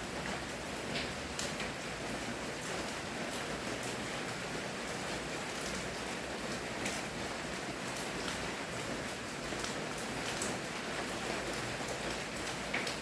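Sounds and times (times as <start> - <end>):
raindrops pattering: 0.0 - 13.0.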